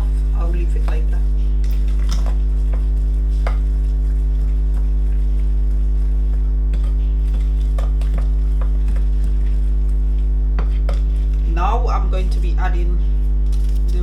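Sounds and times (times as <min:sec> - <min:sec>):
utensil tapping mixing bowl: 0:00.0 - 0:13.0
loud electrical mains hum: 0:00.0 - 0:14.0.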